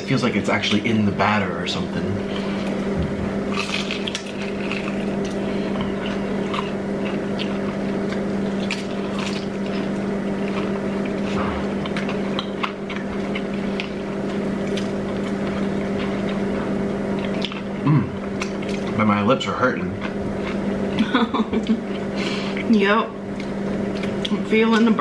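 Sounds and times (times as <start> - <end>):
constant low hum: 0.0 - 25.0
people chewing fried chicken: 2.2 - 25.0
sharp eating clicks and smacks: 3.5 - 16.5, 17.1 - 19.1, 19.7 - 25.0.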